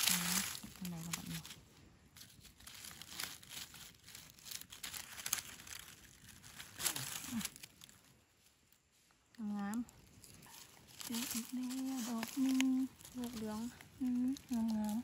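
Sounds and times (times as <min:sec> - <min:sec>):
dry leaves crackling: 0:00.0 - 0:15.0.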